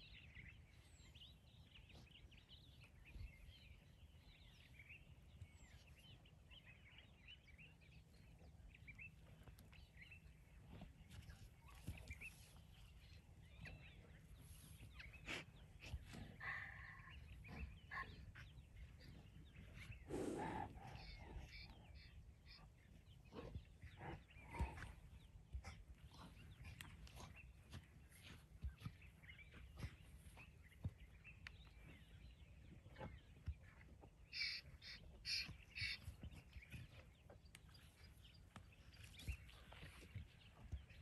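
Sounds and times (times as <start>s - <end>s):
birds chirping and trilling: 0.0s - 41.0s.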